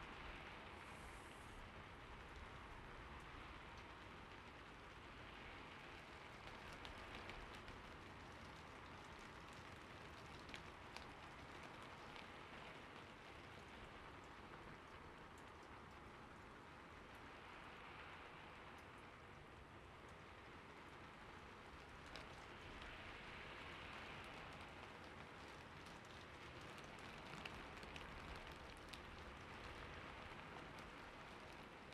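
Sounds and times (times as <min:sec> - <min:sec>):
faint rain-like hiss: 0:00.0 - 0:31.9.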